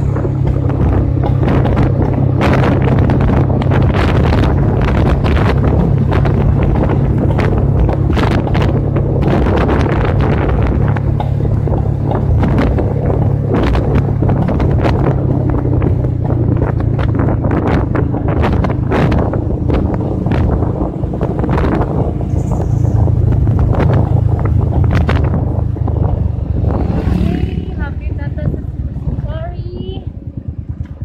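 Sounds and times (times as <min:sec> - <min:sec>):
motorcycle engine drone: 0:00.0 - 0:31.0
wind buffeting microphone: 0:00.0 - 0:31.0.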